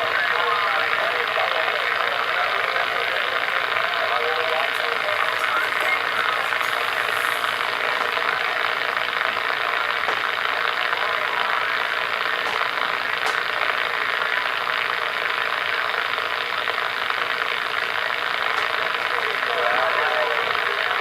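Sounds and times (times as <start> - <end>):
radio static hissing: 0.0 - 21.0.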